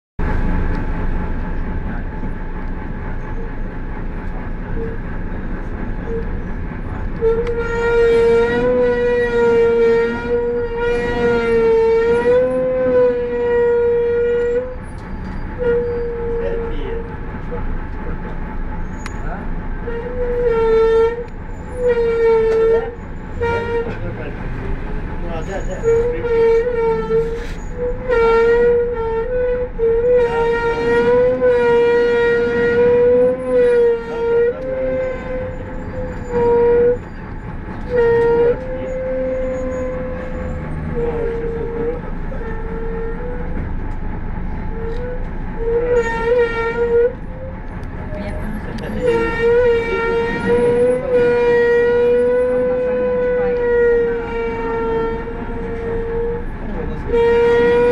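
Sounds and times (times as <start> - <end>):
brake pads squealing: 3.2 - 57.9.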